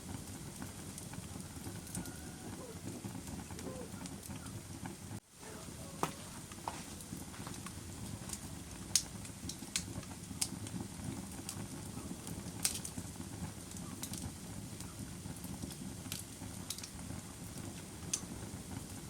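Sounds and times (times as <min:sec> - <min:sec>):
campfire crackling pops: 0:00.0 - 0:19.0
low rumble of flames: 0:00.0 - 0:19.0.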